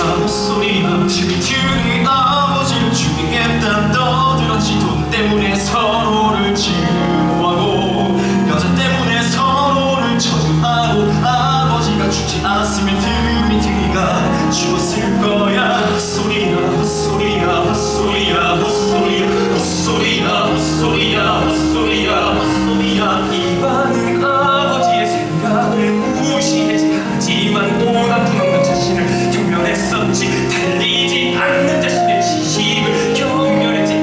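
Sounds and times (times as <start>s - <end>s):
person singing: 0.0s - 34.0s.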